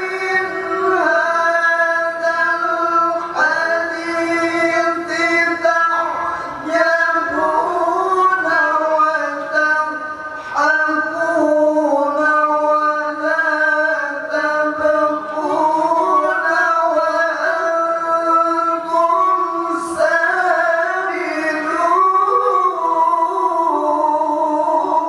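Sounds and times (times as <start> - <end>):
person reciting melodically: 0.0 - 25.0.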